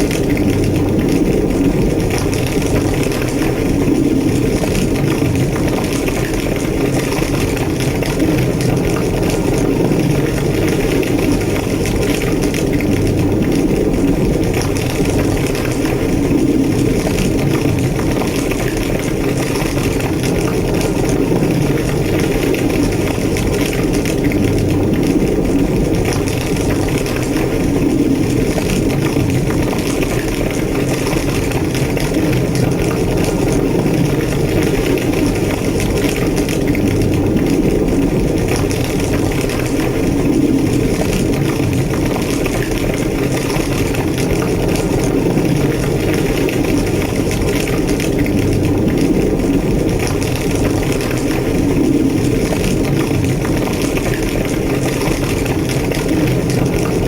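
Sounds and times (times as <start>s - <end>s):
fire crackling: 0.0s - 57.0s
fire roaring: 0.0s - 57.0s.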